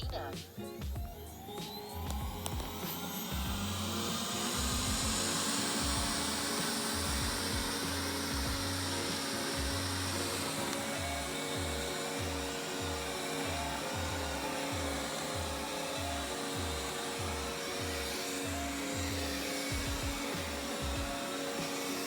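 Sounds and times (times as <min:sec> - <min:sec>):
robot vacuum motor whine: 0:00.0 - 0:22.0.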